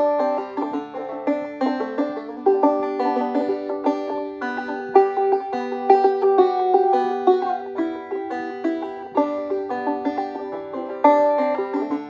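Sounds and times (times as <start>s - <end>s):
banjo plucking: 0.0s - 12.0s.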